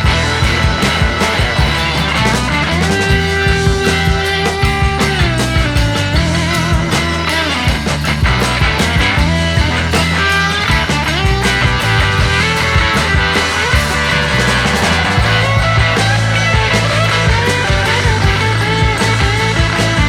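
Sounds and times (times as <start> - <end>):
rock music with electric guitar: 0.0 - 20.0
steady drums: 0.0 - 20.0.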